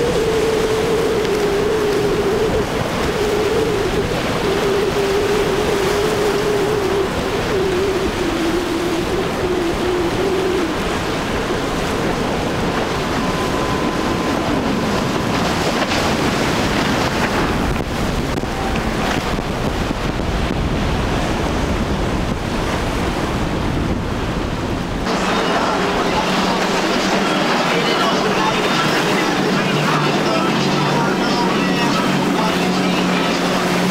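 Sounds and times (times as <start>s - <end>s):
boat engine drone: 0.0s - 33.9s
boats spraying through water: 0.0s - 33.9s
rough surf: 0.0s - 33.9s
wind buffeting microphone: 0.0s - 33.9s.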